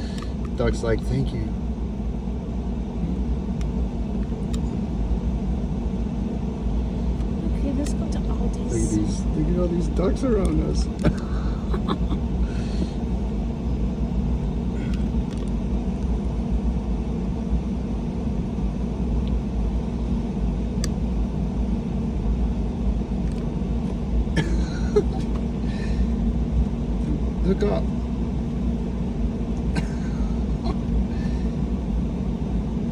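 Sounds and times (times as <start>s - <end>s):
car interior rumble: 0.0s - 32.9s.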